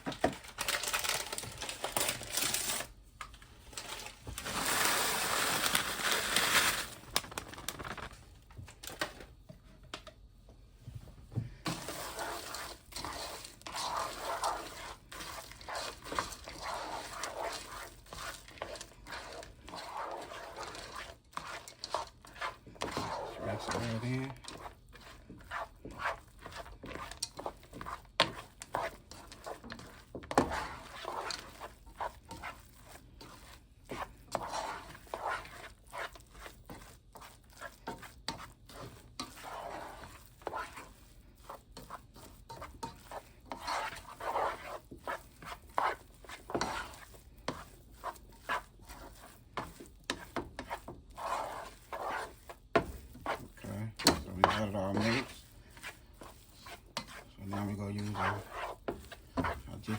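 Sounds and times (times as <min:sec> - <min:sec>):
spoon scraping and knocking a pan: 0:11.6 - 0:59.9
gritty rasping of crumbs: 0:11.7 - 0:59.9.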